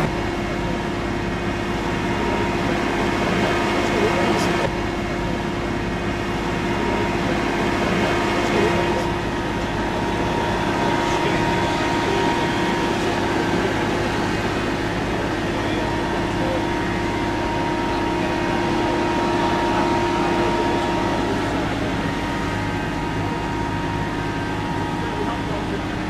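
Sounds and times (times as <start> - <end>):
constant hum: 0.0 - 26.0
diesel pump engine drone: 0.0 - 26.0.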